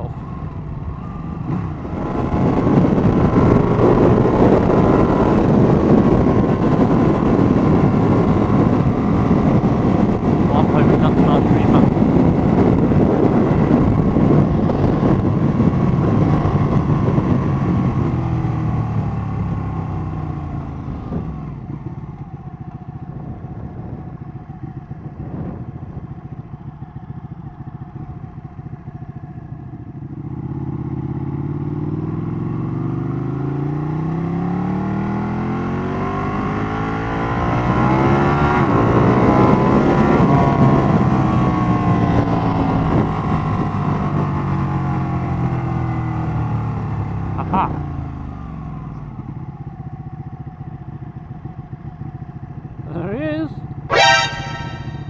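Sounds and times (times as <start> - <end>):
motorcycle engine: 0.0 - 55.0
wind: 0.0 - 55.0.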